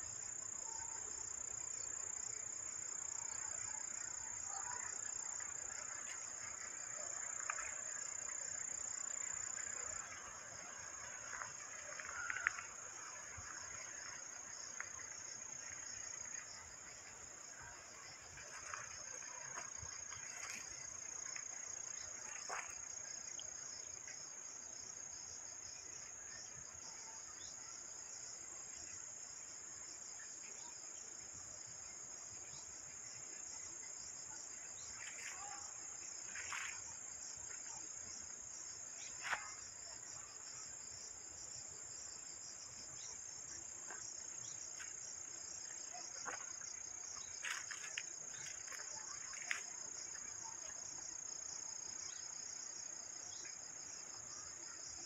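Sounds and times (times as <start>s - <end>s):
crickets and insects chirping: 0.0s - 55.0s.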